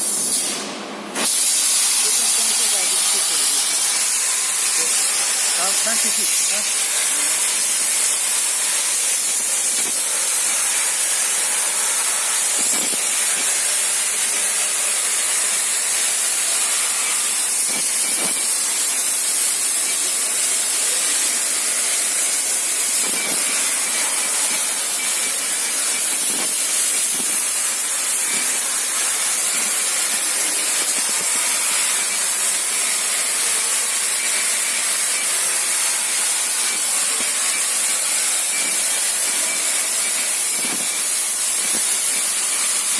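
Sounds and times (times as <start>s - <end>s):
plasma cutter hissing: 0.0s - 42.9s.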